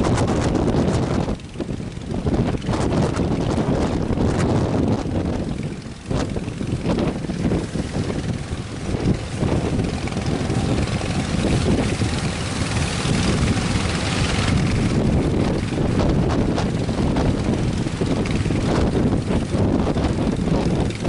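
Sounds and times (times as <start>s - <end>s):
heavy surf roaring: 0.0s - 21.0s
wind buffeting microphone: 0.0s - 21.0s.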